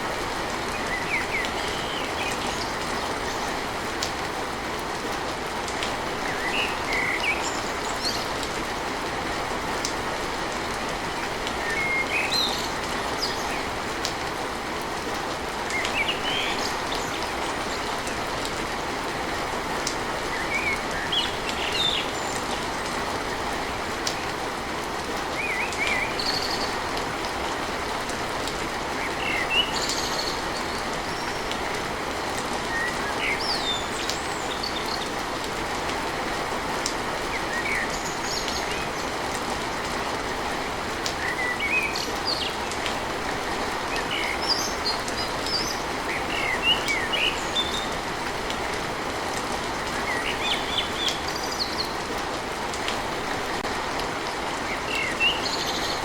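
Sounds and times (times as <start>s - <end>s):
rain drumming on a tin roof: 0.0s - 56.0s.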